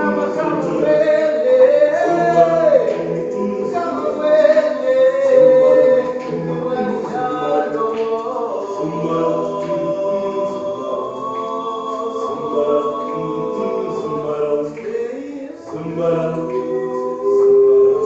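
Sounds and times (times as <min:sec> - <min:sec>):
choir singing a cappella: 0:00.0 - 0:18.0.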